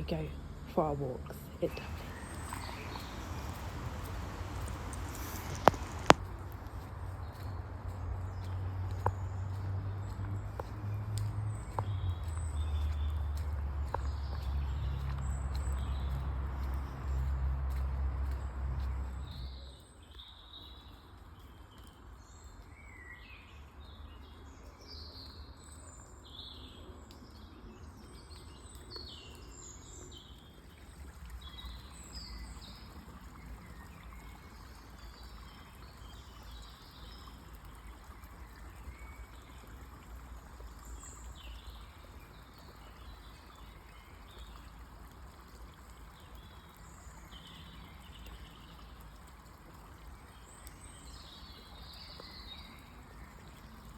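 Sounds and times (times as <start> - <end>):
water trickling: 0.0 - 22.8, 26.8 - 53.9
songbirds chirping and trilling: 0.0 - 53.9.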